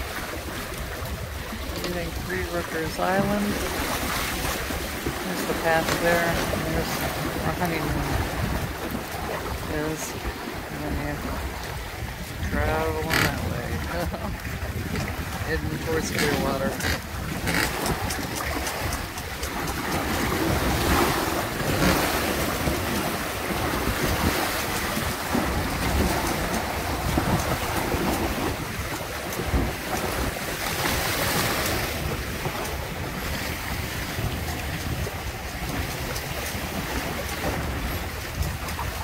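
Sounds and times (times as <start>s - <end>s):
water rushing along hulls: 0.0s - 39.0s
wind buffeting microphone: 0.0s - 39.0s.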